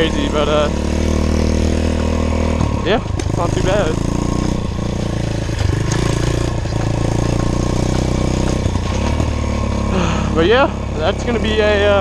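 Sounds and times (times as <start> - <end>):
pit bike engine running: 0.0 - 12.0.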